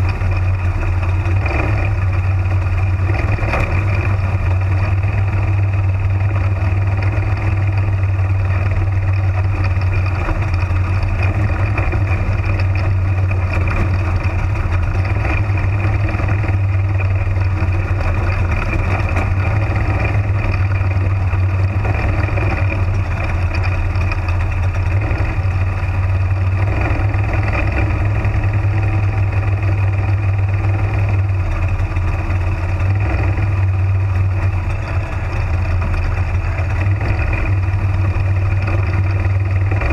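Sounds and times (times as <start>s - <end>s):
race car engine drone: 0.0s - 39.9s.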